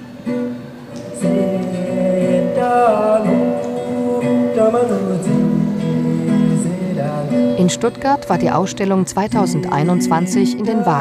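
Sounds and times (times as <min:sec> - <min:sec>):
plucked guitar: 0:00.0 - 0:11.0
person singing: 0:00.9 - 0:11.0.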